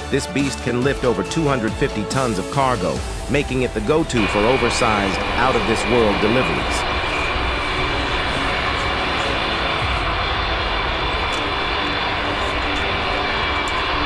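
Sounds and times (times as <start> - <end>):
jet engines roaring at takeoff: 0.9 - 14.0.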